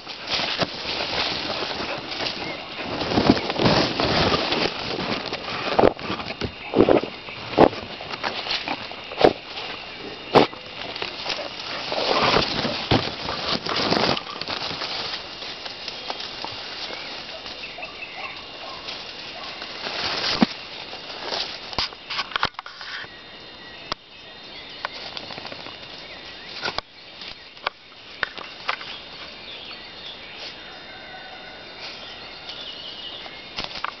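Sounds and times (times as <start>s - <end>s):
faint birds calling: 0.0s - 34.0s
leaves and twigs rustling: 0.0s - 34.0s
steady background hiss: 0.0s - 34.0s.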